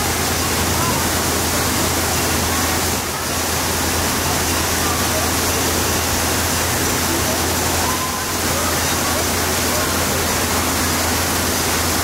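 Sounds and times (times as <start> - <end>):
faint distant voices: 0.0 - 12.0
splashing falling water: 0.0 - 12.0.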